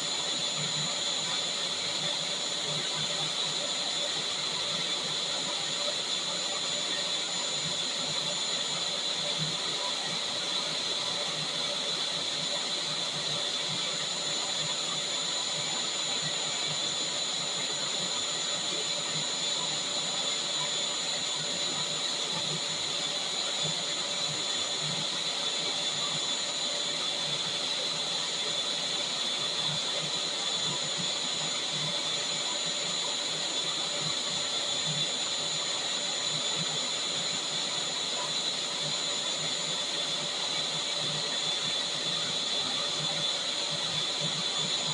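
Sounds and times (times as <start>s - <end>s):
vacuum cleaner running: 0.0s - 44.9s.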